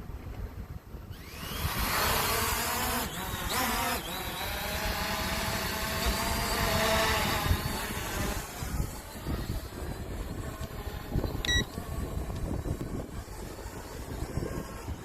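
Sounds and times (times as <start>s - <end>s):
wind buffeting microphone: 0.0s - 15.0s
drone propellers whining: 1.1s - 15.0s.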